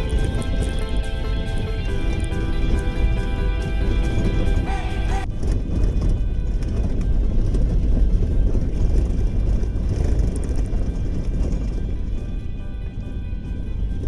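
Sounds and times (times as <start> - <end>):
car driving on dirt track: 0.0 - 14.0.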